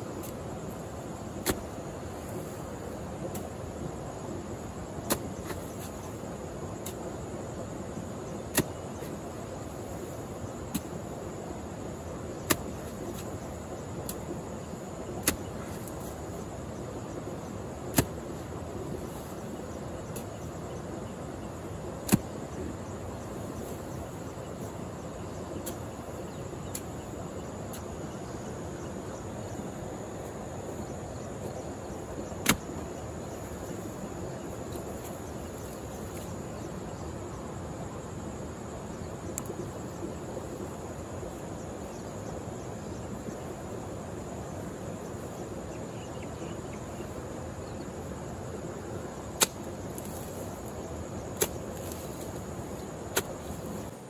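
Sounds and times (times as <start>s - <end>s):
faint high insect drone: 0.0s - 54.0s
hoe working damp soil: 0.0s - 54.0s.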